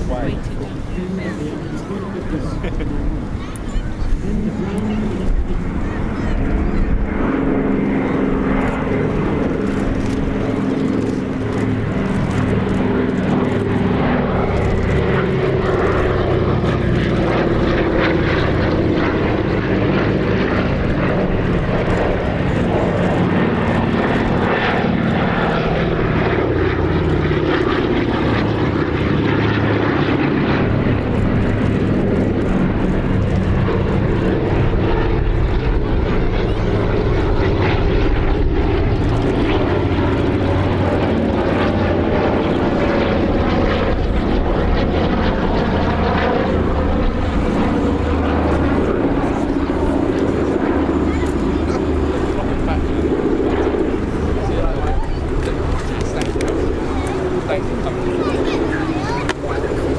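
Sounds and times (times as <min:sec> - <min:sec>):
propeller planes droning past: 0:00.0 - 0:59.9.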